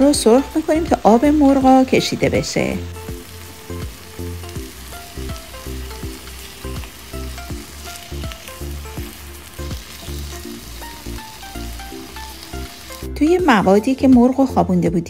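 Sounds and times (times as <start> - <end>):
chicken sizzling in a pan: 0.0 - 14.7
background music with steady beat: 0.0 - 15.0.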